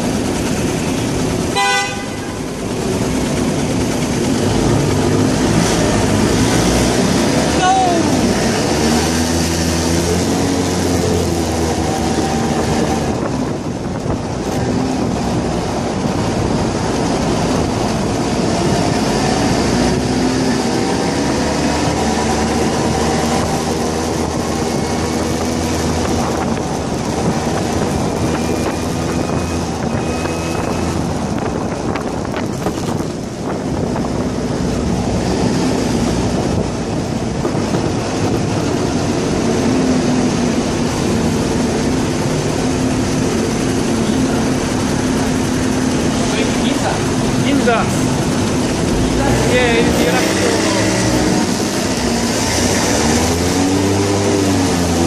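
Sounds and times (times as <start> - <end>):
go-kart engine running: 0.0 - 55.0
wind on microphone: 0.0 - 55.0.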